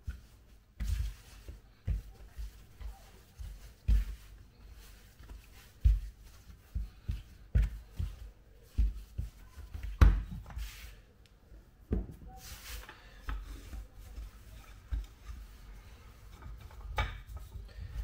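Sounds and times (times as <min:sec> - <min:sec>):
soft knocks of dough and utensils: 0:00.0 - 0:10.8, 0:11.8 - 0:18.0
rubbing and rustling: 0:00.0 - 0:11.2, 0:12.0 - 0:18.0.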